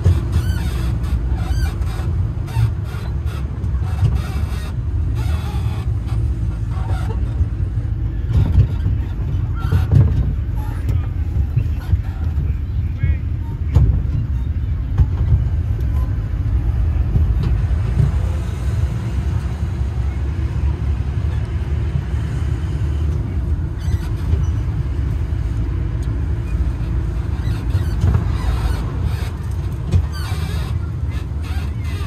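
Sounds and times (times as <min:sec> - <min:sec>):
road train engine and wheels rumbling: 0:00.0 - 0:32.0.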